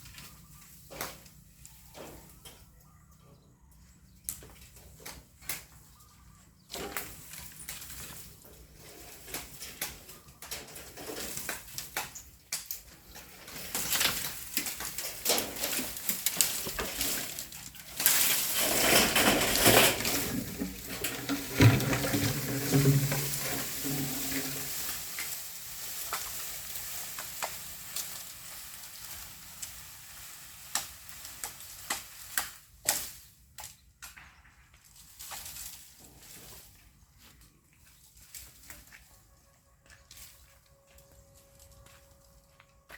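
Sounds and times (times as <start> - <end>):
bamboo leaves rustling: 6.7 - 42.9.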